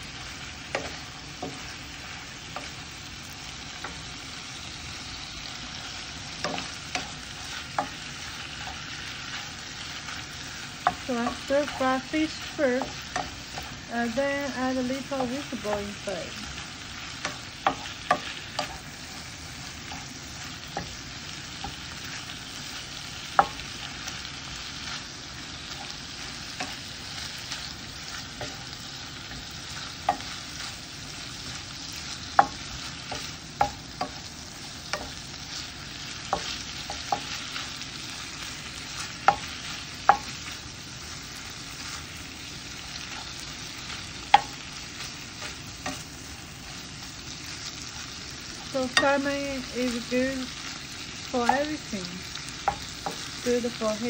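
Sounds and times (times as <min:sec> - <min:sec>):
food sizzling in a frying pan: 0:00.0 - 0:54.0
spatula knocking and scraping pan: 0:00.3 - 0:04.4, 0:05.2 - 0:40.6, 0:42.8 - 0:47.9, 0:48.5 - 0:50.2, 0:50.8 - 0:53.9.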